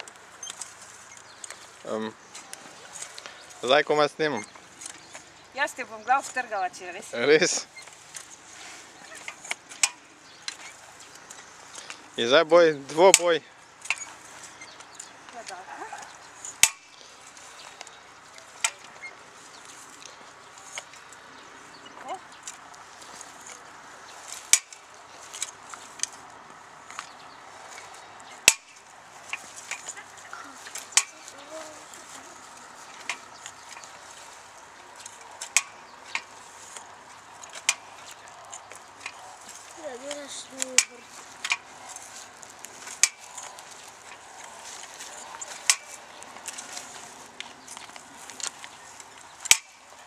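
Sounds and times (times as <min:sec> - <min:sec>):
metal tines clicking in soil: 0:00.0 - 0:12.3, 0:12.9 - 0:21.3, 0:21.9 - 0:50.0.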